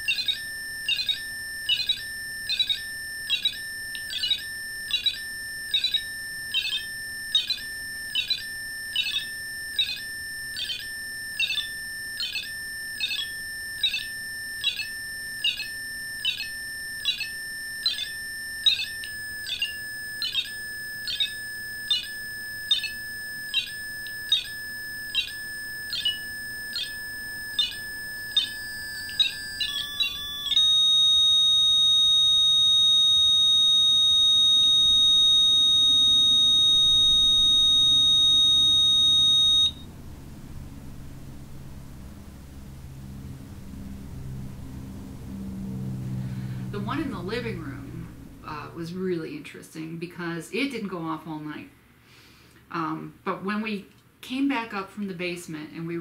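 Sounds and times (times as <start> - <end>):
electronic alarm warbling beeps: 0.0 - 49.1
steady electronic tone: 0.0 - 49.1
continuous high tone: 0.0 - 51.7.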